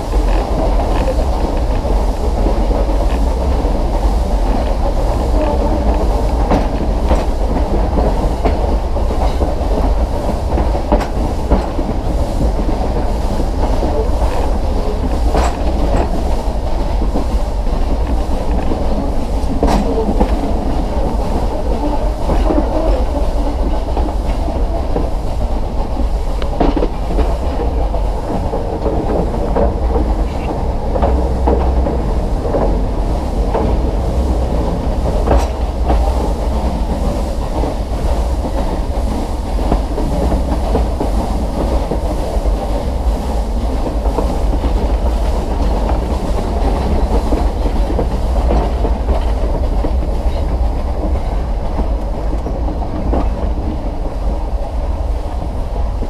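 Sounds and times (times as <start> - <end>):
train rumbling: 0.0 - 56.0
wheels clacking on rails: 0.0 - 56.0.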